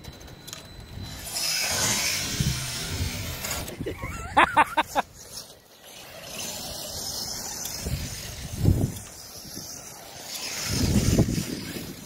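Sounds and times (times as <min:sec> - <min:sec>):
radio-controlled cars running: 0:00.0 - 0:12.0.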